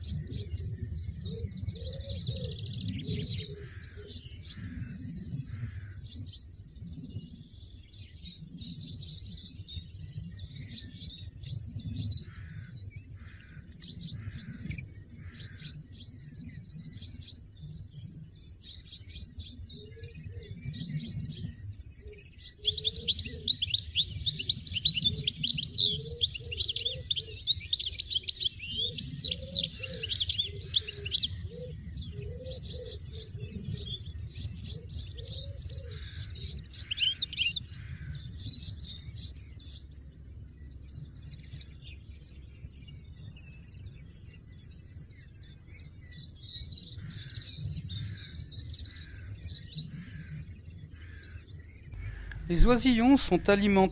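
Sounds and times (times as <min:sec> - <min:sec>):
goldfinches chirping and twittering: 0:00.0 - 0:53.9.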